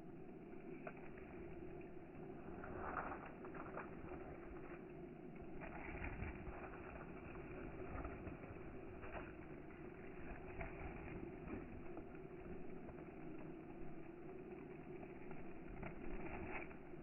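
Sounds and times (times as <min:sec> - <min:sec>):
campfire crackles: 0:00.0 - 0:17.0
campfire rumble: 0:00.0 - 0:17.0.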